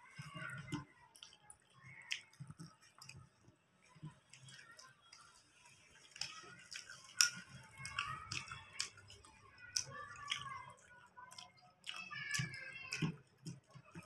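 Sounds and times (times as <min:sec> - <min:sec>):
chewing food: 0:00.0 - 0:14.0.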